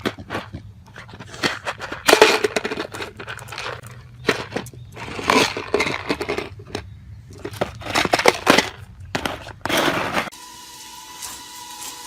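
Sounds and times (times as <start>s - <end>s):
scraping: 0.0s - 10.4s.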